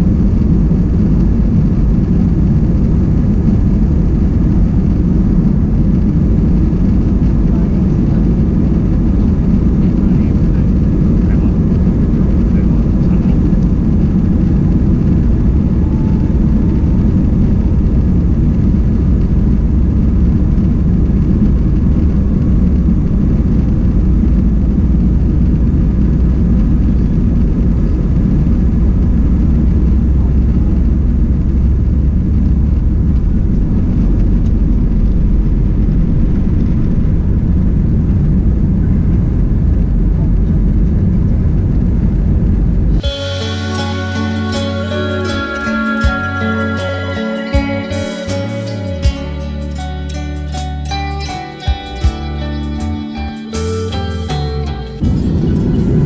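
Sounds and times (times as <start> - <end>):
airliner cabin rumble: 0.0 - 47.9, 54.7 - 56.0.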